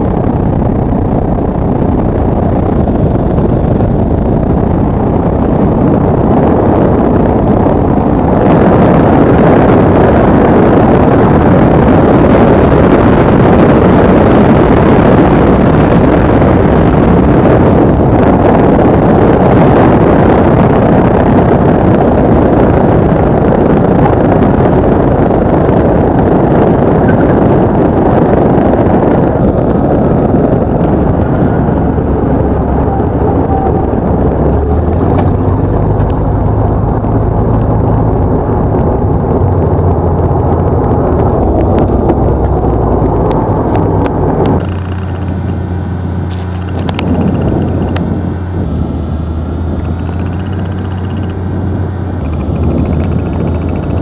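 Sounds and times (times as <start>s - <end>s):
air rushing around glider cockpit: 0.0s - 54.0s.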